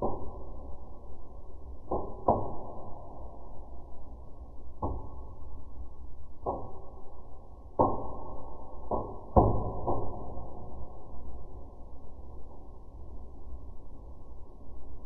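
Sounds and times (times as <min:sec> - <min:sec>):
low crackle: 0:00.0 - 0:15.0.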